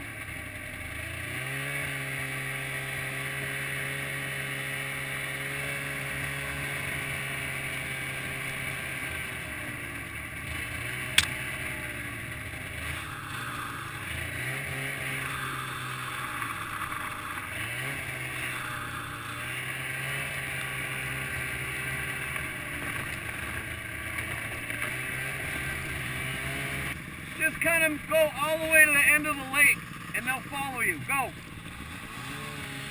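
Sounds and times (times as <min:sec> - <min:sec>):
snowmobile engine running: 0:00.0 - 0:32.9.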